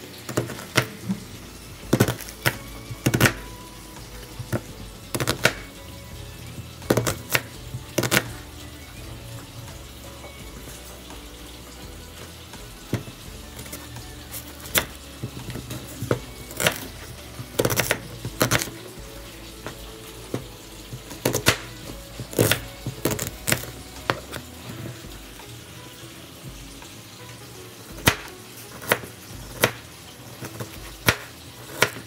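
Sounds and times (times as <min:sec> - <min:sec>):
soft background music: 0:00.0 - 0:32.0.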